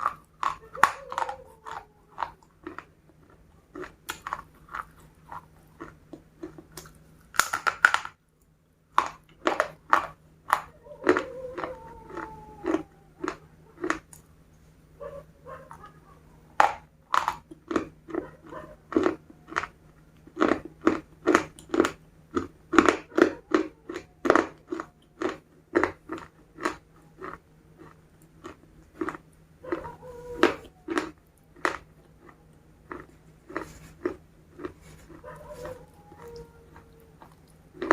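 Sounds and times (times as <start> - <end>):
crunchy chewing of fried chicken: 0.0 - 16.0, 16.6 - 37.9.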